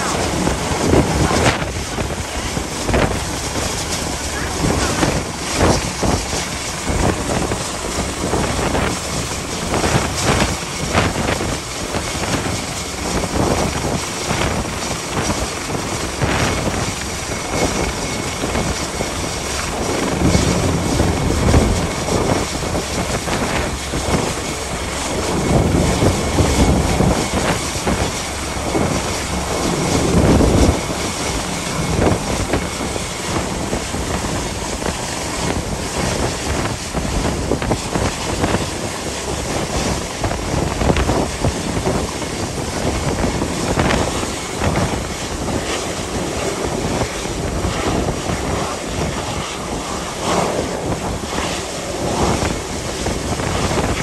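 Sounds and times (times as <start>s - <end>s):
helicopter rotor and engine: 0.0s - 54.0s
wind buffeting microphone: 0.0s - 54.0s.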